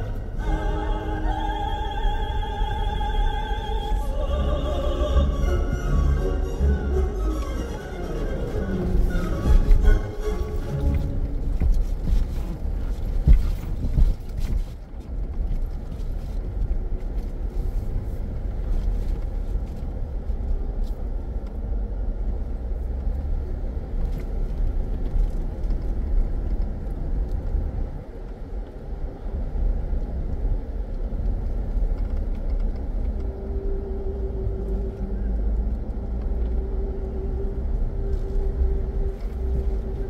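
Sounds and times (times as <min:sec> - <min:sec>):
engine and tyre rumble: 0:00.0 - 0:40.0.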